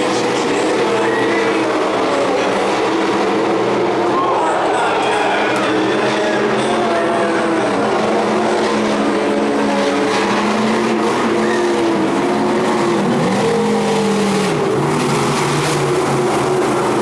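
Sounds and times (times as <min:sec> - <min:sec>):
stock car engines racing: 0:00.0 - 0:17.0.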